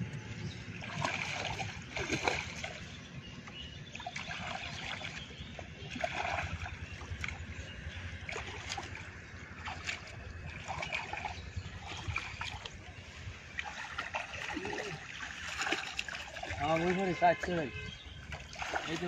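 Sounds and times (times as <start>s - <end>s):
steady low rumble: 0.0s - 16.6s
muddy water sloshing and splashing: 0.0s - 19.0s.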